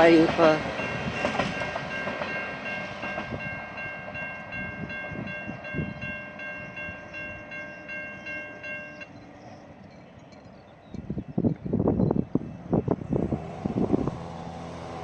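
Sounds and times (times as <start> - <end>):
train rumbling over rails: 0.0 - 15.0.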